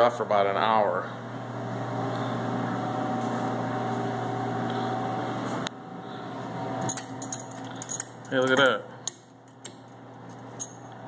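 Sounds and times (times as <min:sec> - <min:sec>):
vending machine humming: 0:00.0 - 0:11.0.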